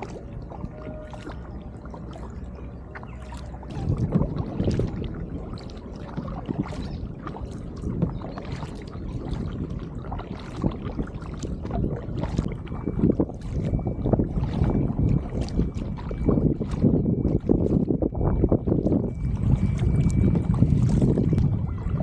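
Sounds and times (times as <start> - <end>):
water splashing against kayak: 0.0 - 22.0.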